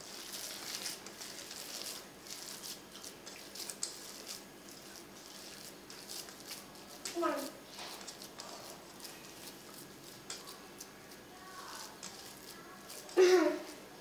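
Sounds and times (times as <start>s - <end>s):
meat mixture squelching by hand: 0.0s - 14.0s.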